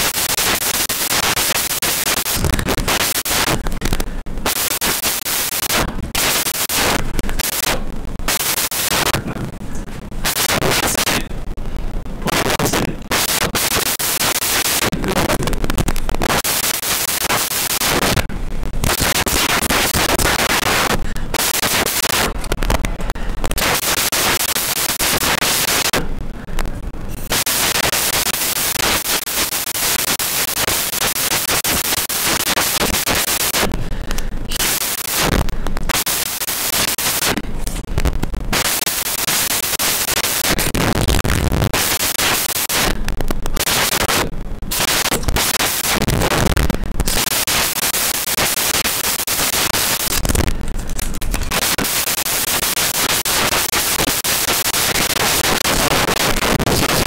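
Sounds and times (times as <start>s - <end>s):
loud crackling static: 0.0s - 57.0s.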